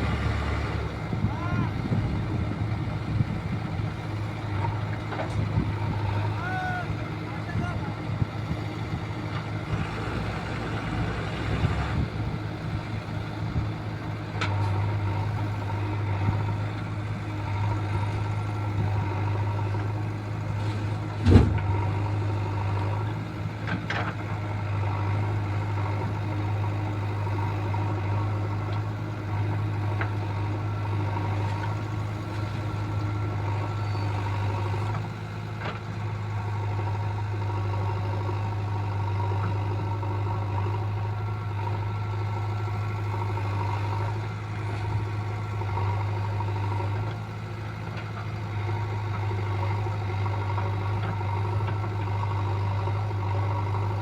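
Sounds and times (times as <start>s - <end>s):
heavy vehicle engine idling: 0.0s - 54.0s.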